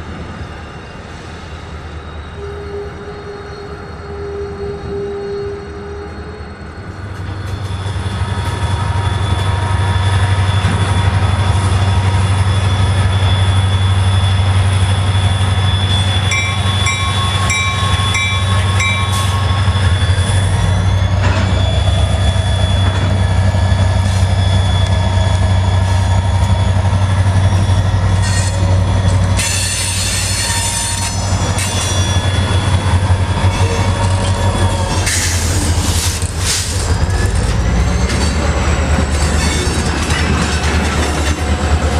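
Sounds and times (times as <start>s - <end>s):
diesel locomotive engine drone: 0.0s - 41.9s.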